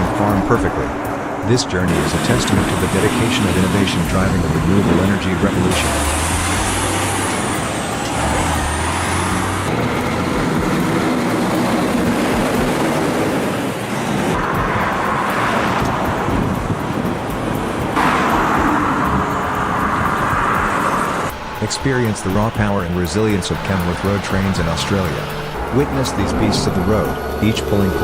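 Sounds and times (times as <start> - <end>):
road noise: 0.0 - 28.0
truck engine running: 0.0 - 28.0.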